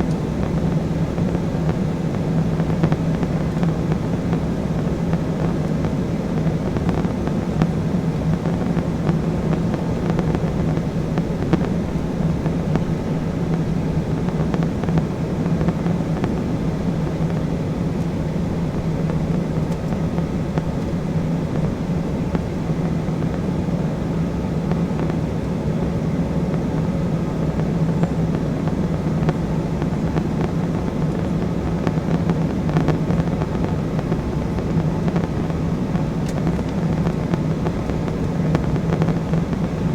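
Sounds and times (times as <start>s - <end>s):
constant low hum: 0.0s - 39.9s
jet engines droning: 0.0s - 39.9s.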